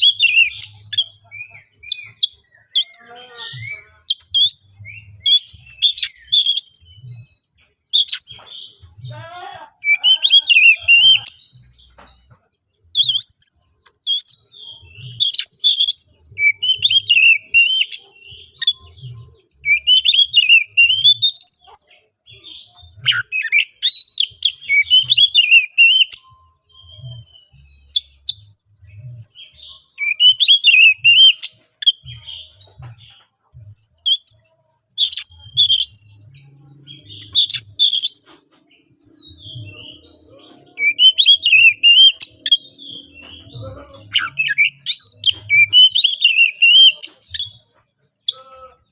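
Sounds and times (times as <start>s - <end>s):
bird singing whistles and chatter: 0.0s - 12.3s, 12.9s - 33.4s, 34.0s - 48.9s.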